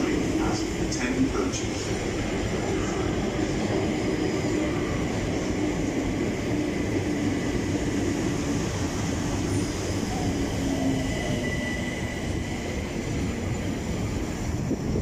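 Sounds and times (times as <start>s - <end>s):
faint train traction hum: 0.0s - 15.0s
train wheels rumbling on rails: 0.0s - 15.0s.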